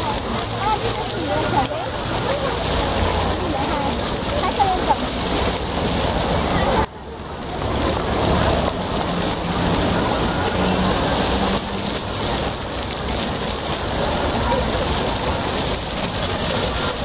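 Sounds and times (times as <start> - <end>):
fountain water splashing on paving: 0.0 - 17.0.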